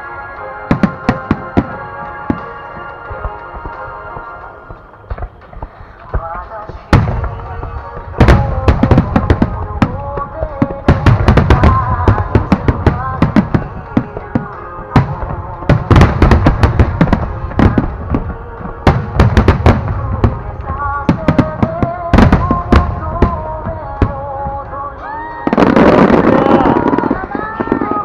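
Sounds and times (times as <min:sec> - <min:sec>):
fireworks bursting: 0:00.0 - 0:28.0
slow held music melody: 0:00.0 - 0:28.0.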